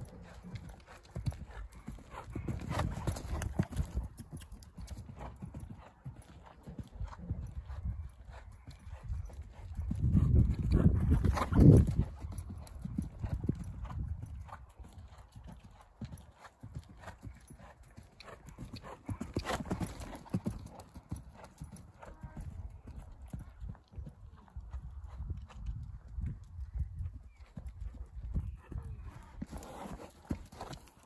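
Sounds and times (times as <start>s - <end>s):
horse hoofbeats on sand: 0.0s - 23.4s, 27.8s - 31.0s.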